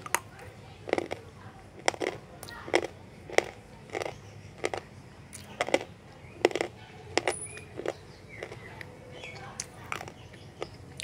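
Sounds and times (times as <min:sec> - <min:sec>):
pencils being bitten and chewed: 0:00.0 - 0:11.0.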